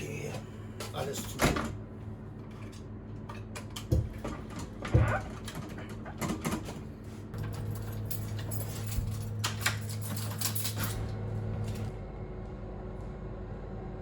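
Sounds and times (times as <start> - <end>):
tram equipment humming: 0.0 - 14.0.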